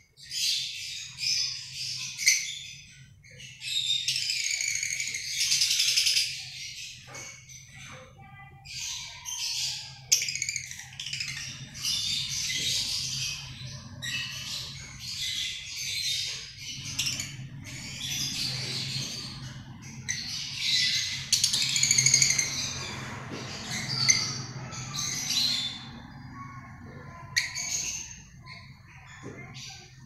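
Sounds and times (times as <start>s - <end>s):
lovebirds chattering and squawking: 0.0s - 30.0s.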